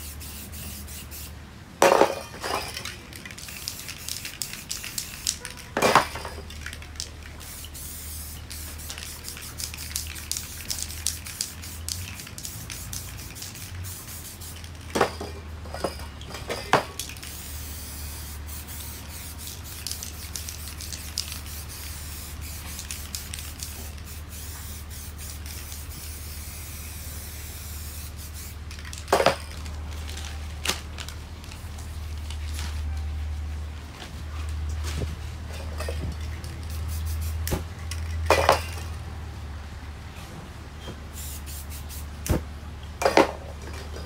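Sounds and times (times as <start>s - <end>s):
spray paint cans hissing: 0.0s - 33.0s, 35.5s - 38.9s, 41.1s - 42.4s.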